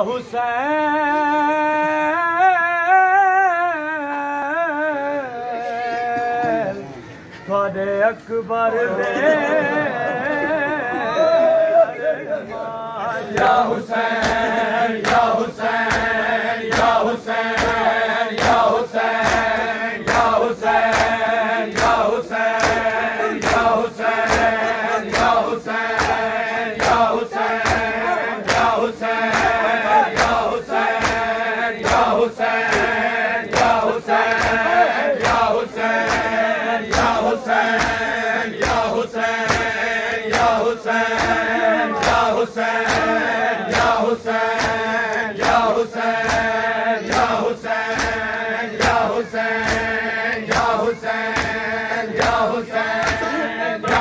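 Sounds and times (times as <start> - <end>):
crowd chanting in unison: 4.7 - 54.0.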